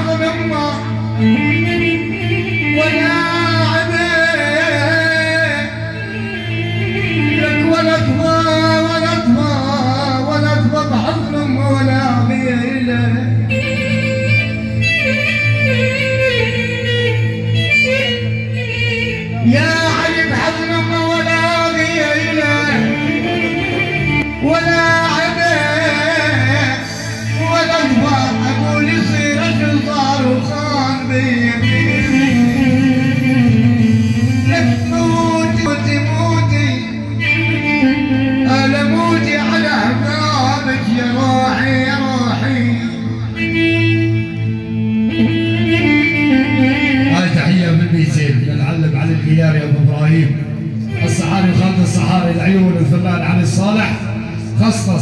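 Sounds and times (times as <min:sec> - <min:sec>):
man singing into a microphone: 0:00.0 - 0:55.0.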